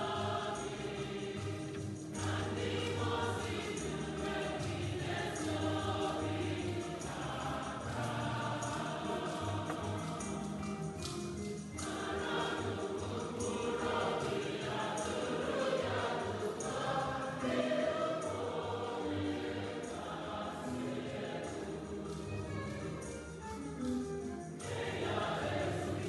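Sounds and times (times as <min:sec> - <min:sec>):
gospel choir singing: 0:00.0 - 0:26.0
percussion beat: 0:00.0 - 0:26.0.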